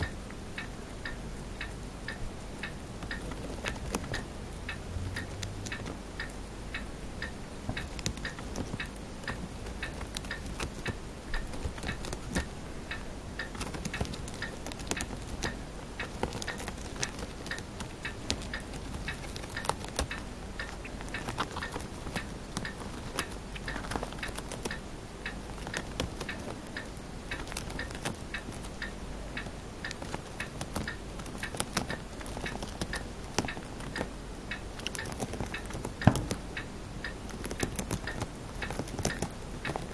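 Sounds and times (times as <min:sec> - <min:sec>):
hamster chewing a leaf: 0:02.0 - 0:39.9.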